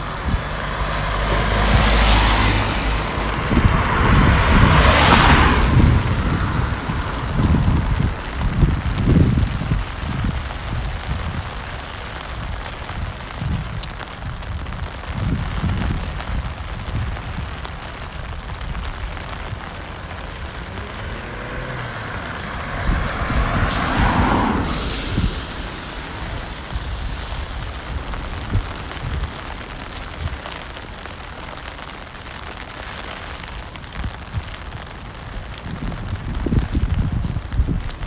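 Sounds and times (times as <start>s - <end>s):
car tyres hissing on wet road: 0.0s - 38.0s
rain on wet pavement: 0.0s - 38.0s.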